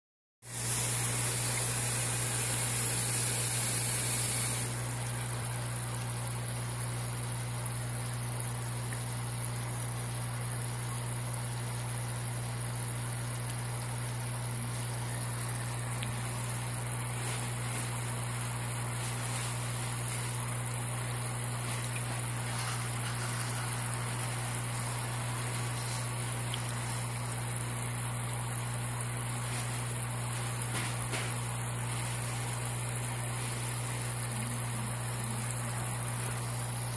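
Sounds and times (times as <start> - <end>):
air pump humming with hiss: 0.4 - 8.6, 11.5 - 36.9.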